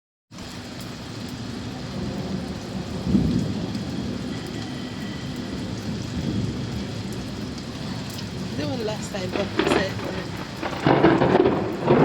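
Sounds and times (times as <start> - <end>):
steady rain falling: 0.3 - 12.0.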